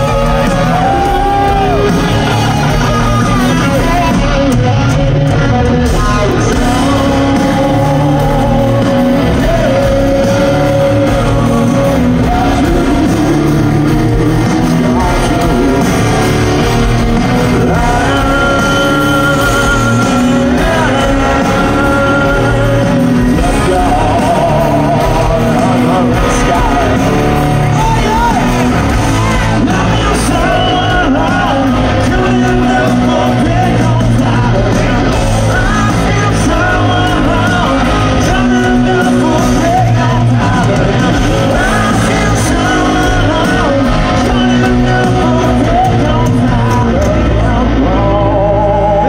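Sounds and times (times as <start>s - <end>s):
live hard rock band: 0.0s - 49.0s.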